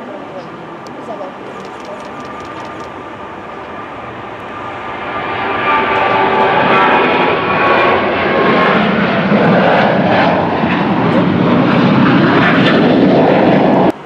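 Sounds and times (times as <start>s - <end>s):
high engine whine: 0.0s - 14.0s
jet engines roaring: 0.0s - 14.0s.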